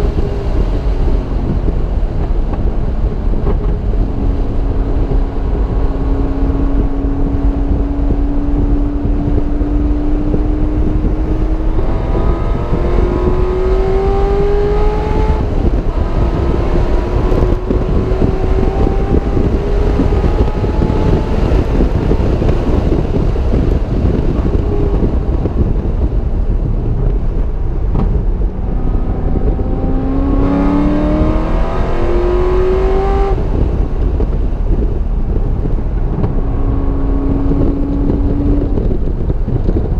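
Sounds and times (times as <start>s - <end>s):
car engine accelerating through gears: 0.0s - 39.9s
wind and road noise: 0.0s - 39.9s.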